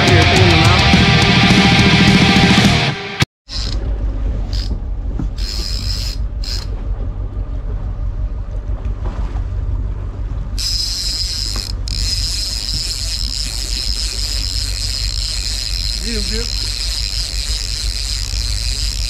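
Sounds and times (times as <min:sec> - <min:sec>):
boat engine low rumble: 0:03.5 - 0:19.0.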